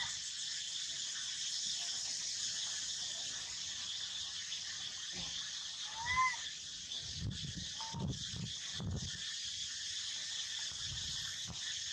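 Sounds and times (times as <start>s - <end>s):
drone of insects: 0.0s - 11.9s.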